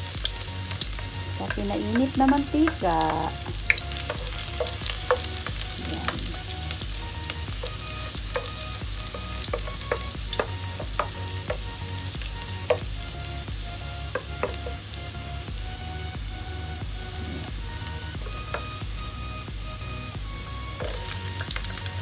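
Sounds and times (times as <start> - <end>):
garlic sizzling in oil: 0.0 - 22.0.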